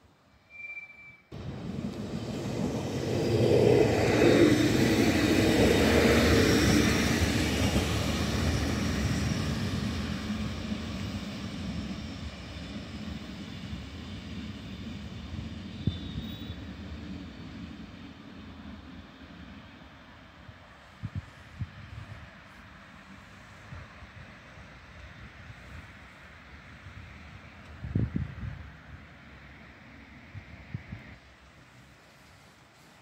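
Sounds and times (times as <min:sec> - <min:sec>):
train passing: 0:01.3 - 0:33.0.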